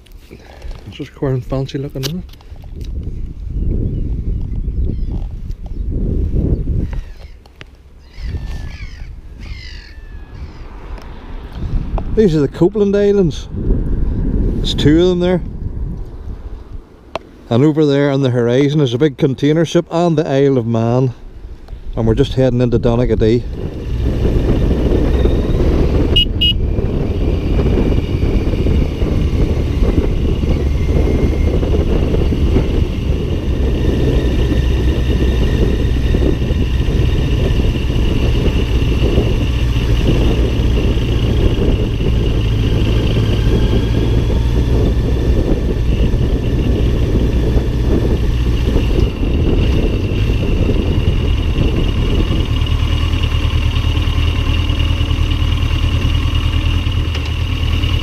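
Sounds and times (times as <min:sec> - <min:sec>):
motorcycle engine hum: 0:00.0 - 0:58.0
wind buffeting microphone: 0:00.0 - 0:58.0.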